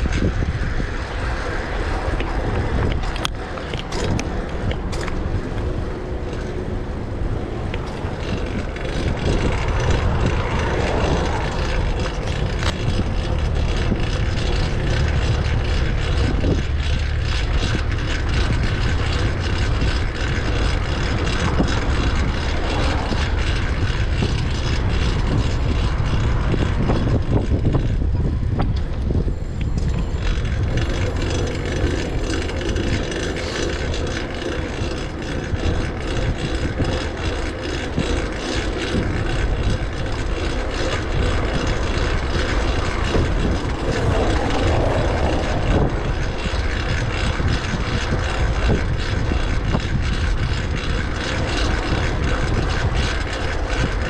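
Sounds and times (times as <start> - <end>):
bicycle road noise: 0.0 - 54.0
drivetrain whir and ticking: 0.0 - 54.0
wind on microphone: 0.0 - 54.0.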